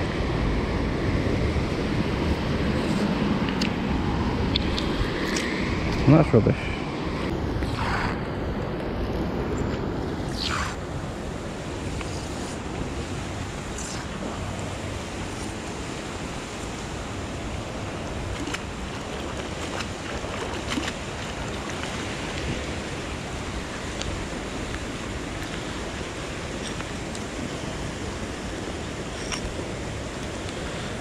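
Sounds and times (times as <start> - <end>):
rain and wind hiss: 0.0 - 31.0.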